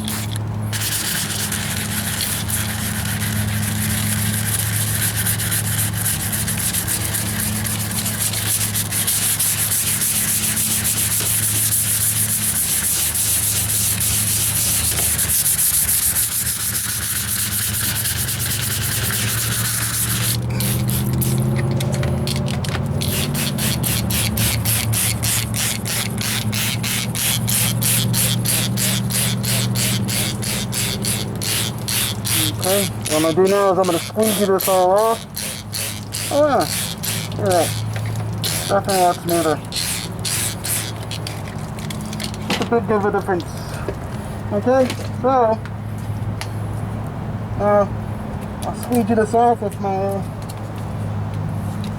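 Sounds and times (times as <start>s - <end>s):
abrasive paper rubbing a panel: 0.0s - 41.6s.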